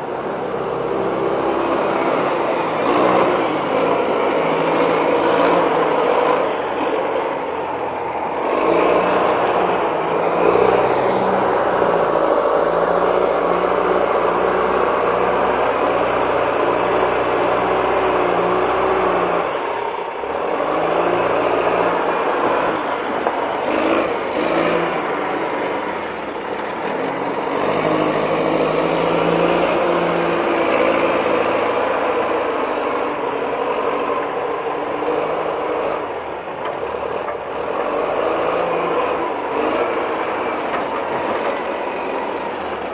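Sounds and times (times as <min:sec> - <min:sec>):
diesel engine working under load: 0:00.0 - 0:42.9.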